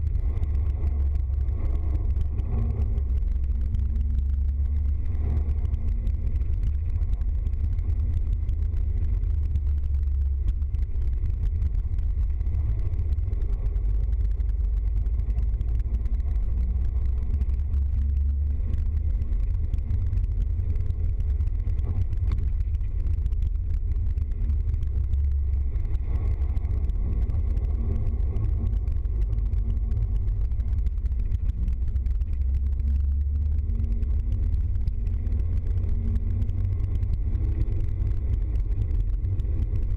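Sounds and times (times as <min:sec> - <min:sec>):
engine and road noise drone: 0:00.0 - 0:39.9.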